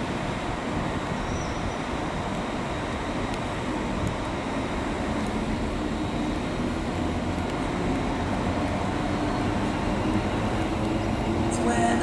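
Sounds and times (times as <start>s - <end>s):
train running drone: 0.0s - 12.0s.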